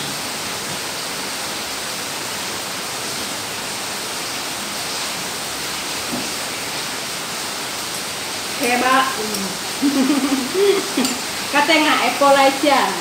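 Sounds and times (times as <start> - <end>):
steady background hiss: 0.5 - 13.0.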